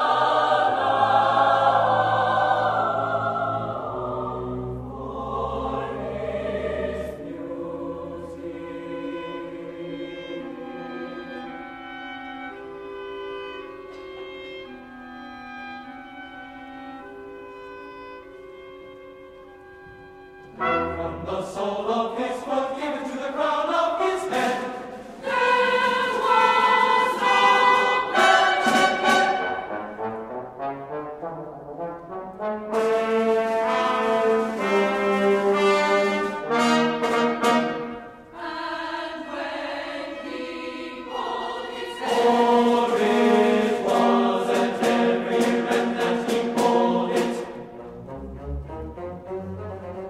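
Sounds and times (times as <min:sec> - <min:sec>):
choir singing: 0:00.0 - 0:14.9, 0:20.5 - 0:30.8, 0:32.7 - 0:50.0
orchestra with prominent brass: 0:00.0 - 0:38.6, 0:40.4 - 0:50.0.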